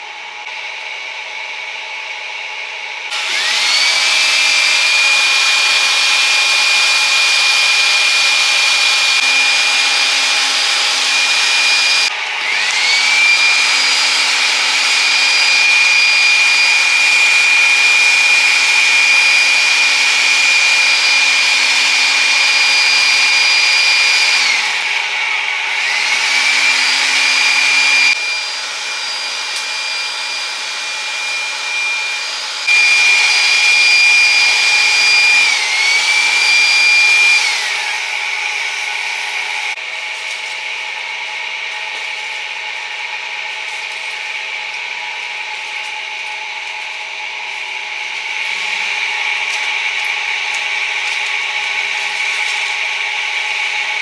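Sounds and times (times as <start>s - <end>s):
electric blower whining: 0.0s - 54.0s.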